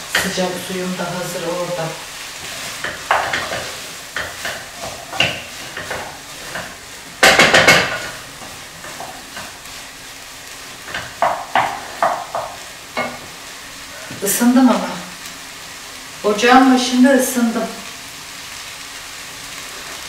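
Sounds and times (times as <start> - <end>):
food sizzling in pot: 0.0 - 20.0.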